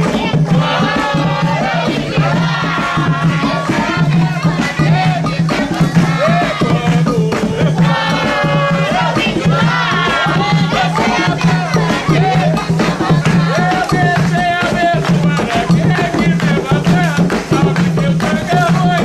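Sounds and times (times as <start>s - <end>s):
people shouting: 0.0s - 17.2s
group singing a ritual chant: 0.0s - 19.0s
steady drum beat: 0.0s - 19.0s.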